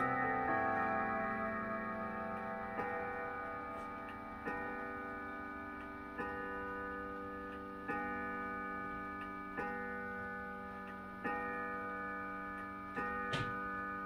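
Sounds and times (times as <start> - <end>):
clock striking: 0.0 - 14.0
clock ticking: 0.0 - 14.0.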